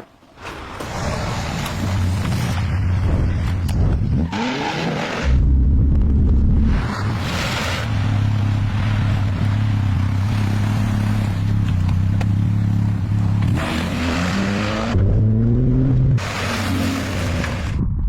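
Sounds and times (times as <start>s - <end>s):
car engine revving: 1.4s - 17.8s.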